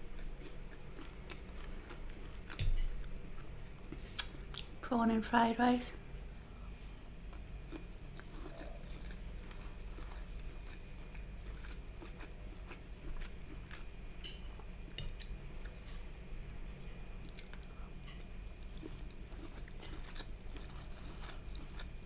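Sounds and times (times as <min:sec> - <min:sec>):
low steady hum: 0:00.0 - 0:22.0
person chewing food: 0:00.1 - 0:04.7, 0:07.0 - 0:22.0.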